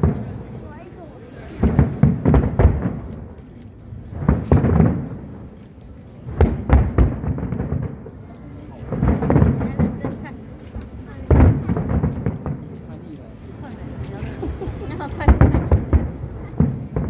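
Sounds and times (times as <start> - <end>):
fireworks bursting booms: 0.0 - 0.6, 1.4 - 17.0.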